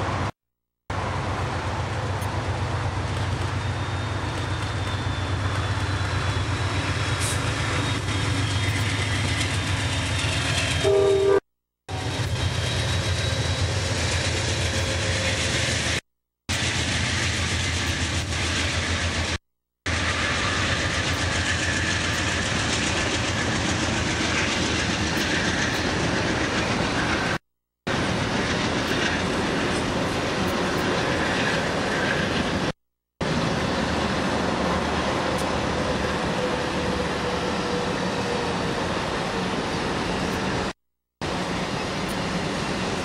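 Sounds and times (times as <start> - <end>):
train wheels rumbling on rails: 0.9 - 11.3, 11.9 - 43.0.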